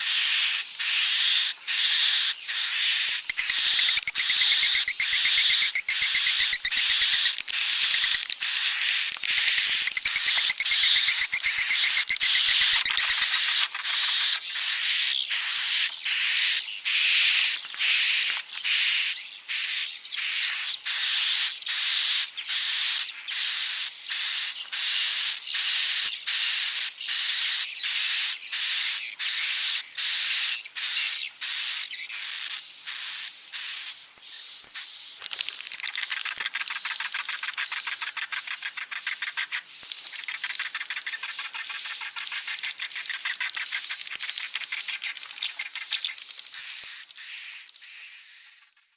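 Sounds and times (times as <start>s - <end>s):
high buzzy bird chirps: 0.0s - 48.9s.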